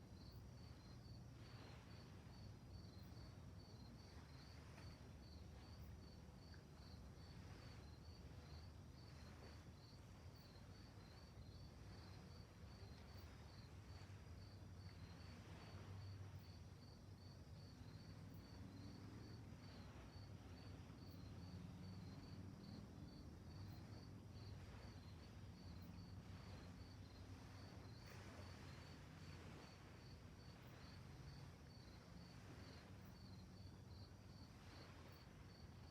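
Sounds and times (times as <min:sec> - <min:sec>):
crickets chirping: 0:00.0 - 0:35.9
soft low rumble: 0:00.1 - 0:35.9.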